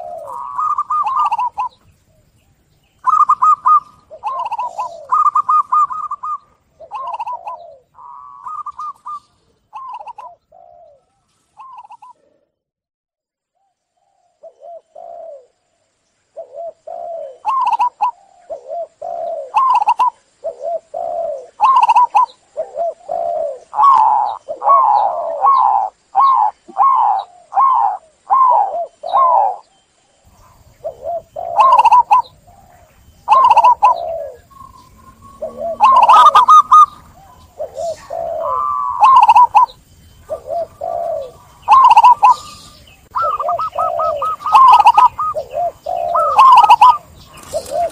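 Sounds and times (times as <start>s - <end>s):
dove cooing: 0.0s - 2.4s, 3.0s - 12.6s, 14.0s - 15.6s, 16.4s - 47.9s.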